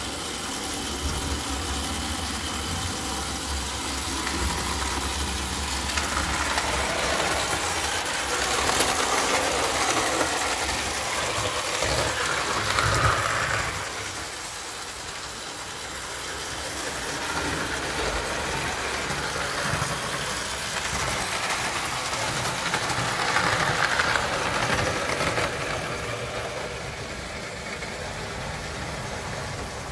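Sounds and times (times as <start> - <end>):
model train motor whirring: 0.0 - 29.9
wheels rattling on rails: 0.0 - 29.9.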